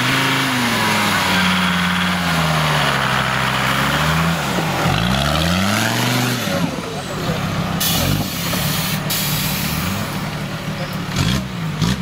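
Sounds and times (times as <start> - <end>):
off-road vehicle engine under load: 0.0 - 12.0.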